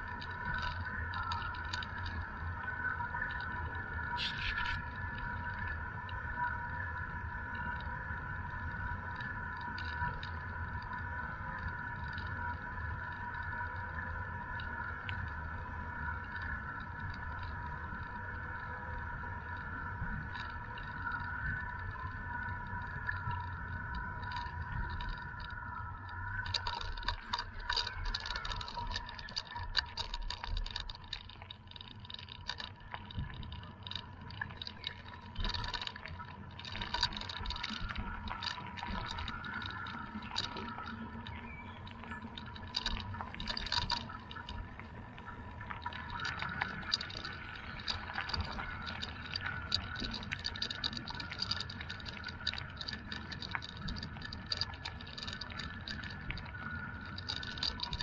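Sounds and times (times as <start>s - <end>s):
bike rattling clicks: 0.0s - 6.2s, 7.5s - 58.0s
bicycle tyres on gravel: 0.0s - 58.0s.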